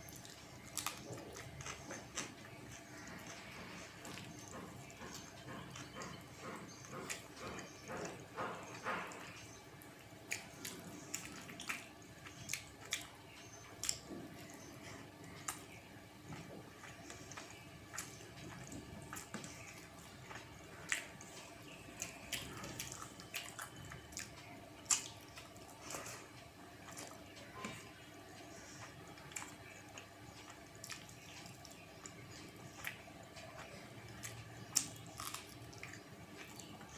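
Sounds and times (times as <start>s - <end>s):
person chewing with wet smacks: 0.0s - 36.9s.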